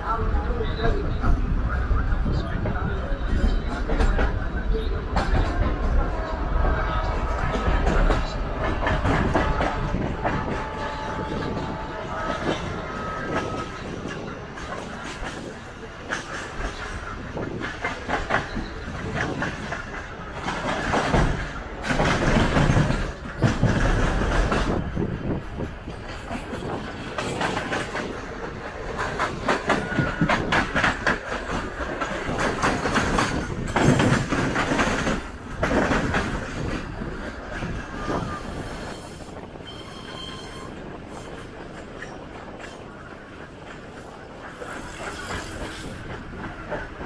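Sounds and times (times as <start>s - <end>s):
passing train rapid clatter: 0.0s - 47.0s
train wheels clattering over rail joints: 2.5s - 47.0s.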